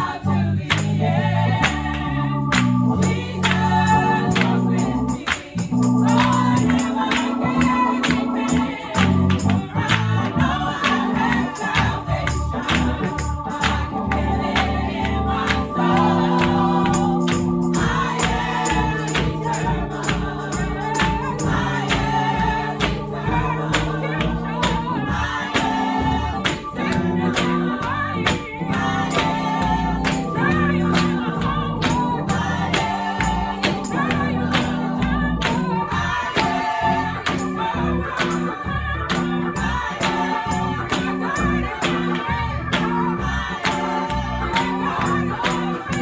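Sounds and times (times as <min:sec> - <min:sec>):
choir and congregation singing: 0:00.0 - 0:46.0
steady percussion beat: 0:02.6 - 0:46.0.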